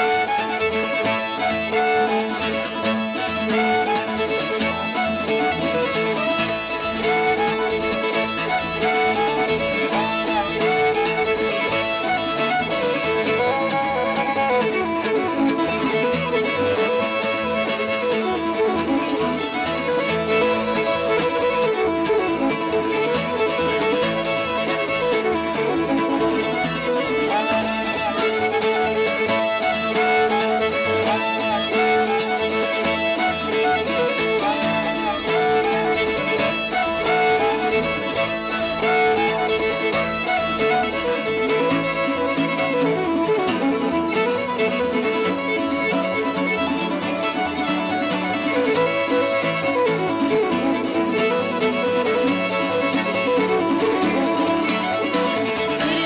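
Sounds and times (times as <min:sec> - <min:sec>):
fiddle playing folk melody: 0:00.0 - 0:56.0.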